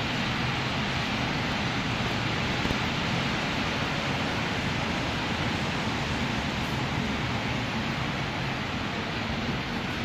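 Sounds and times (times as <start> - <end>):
city traffic on wet streets: 0.0 - 10.0.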